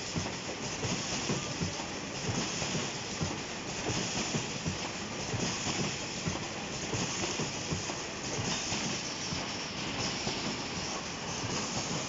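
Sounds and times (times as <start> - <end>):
machine hiss: 0.0 - 12.0.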